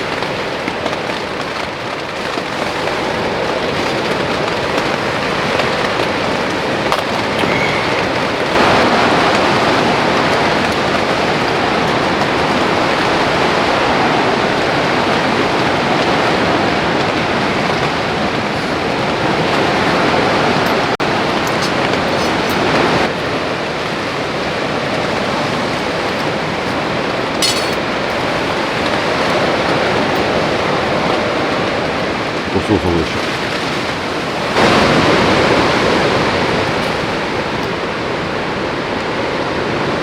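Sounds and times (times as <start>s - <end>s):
heavy rain and wind: 0.0s - 40.0s.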